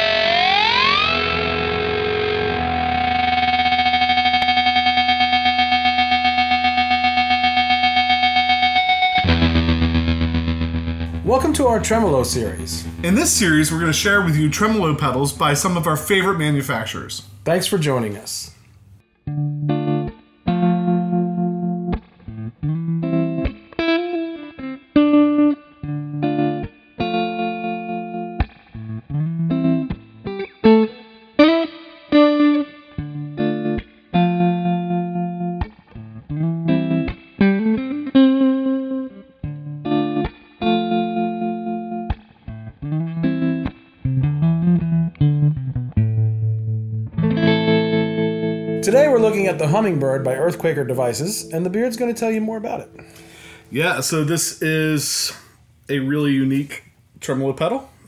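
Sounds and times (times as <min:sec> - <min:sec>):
distorted electric guitar: 0:00.0 - 0:54.3.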